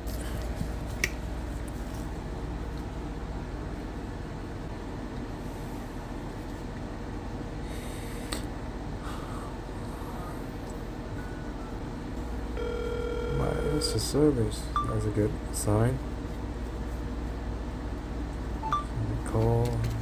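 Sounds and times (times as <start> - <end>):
fan humming: 0.0 - 20.0.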